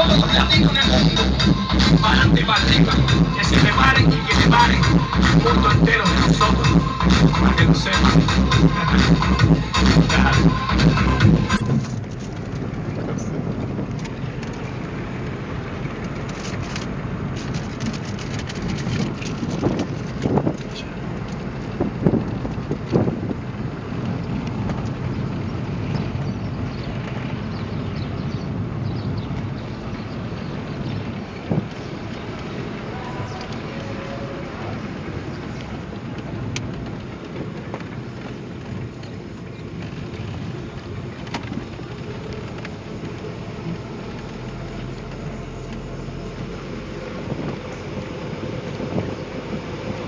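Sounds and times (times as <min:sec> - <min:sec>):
moving car rumble: 0:00.0 - 0:50.0
wind buffeting microphone: 0:00.0 - 0:50.0.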